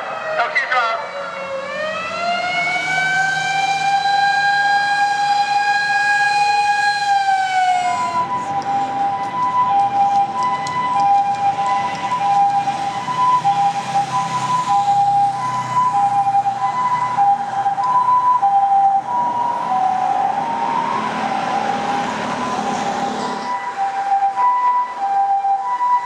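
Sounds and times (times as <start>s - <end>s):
ambulance two-tone siren: 0.0s - 26.0s
traffic and engine noise: 0.0s - 26.0s.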